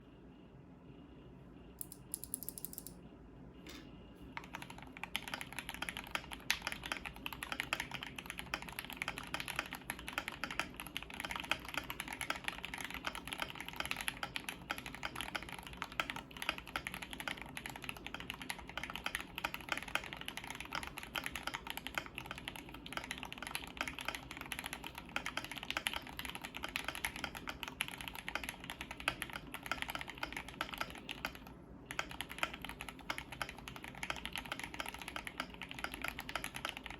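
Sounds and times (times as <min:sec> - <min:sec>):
mechanical keyboard typing: 0:01.8 - 0:03.0, 0:04.4 - 0:36.9.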